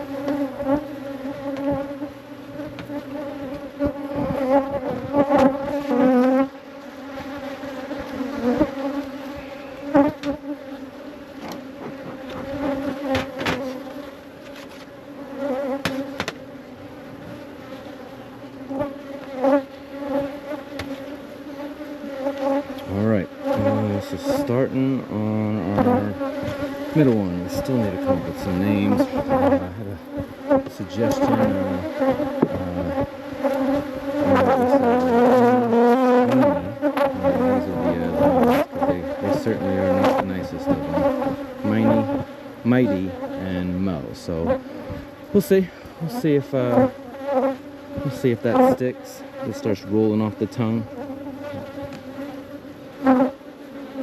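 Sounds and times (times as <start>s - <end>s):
bee whirring past: 0.0s - 54.0s
bees buzzing: 0.0s - 54.0s.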